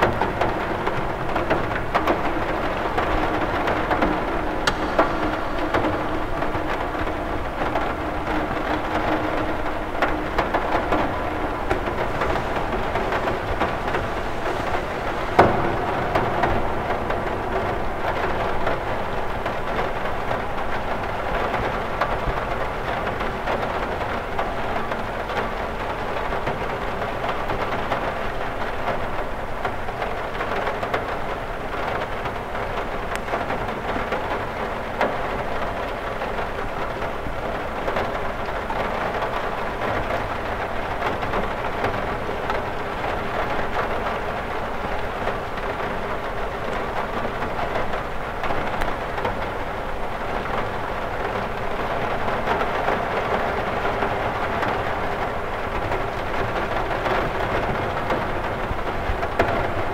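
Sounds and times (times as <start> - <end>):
rain on a window: 0.0 - 59.9
raindrop taps: 0.0 - 59.9.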